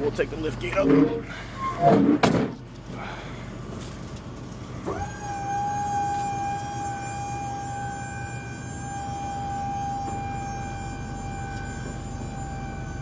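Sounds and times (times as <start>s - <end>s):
hydraulic pump whining: 0.0s - 3.1s, 4.8s - 13.0s.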